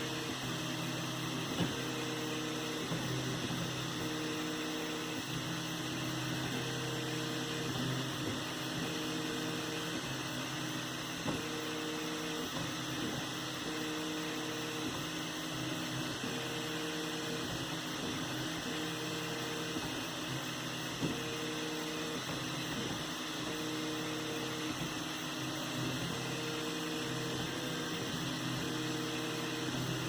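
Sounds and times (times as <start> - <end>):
stepper motors whining: 0.1 - 30.0.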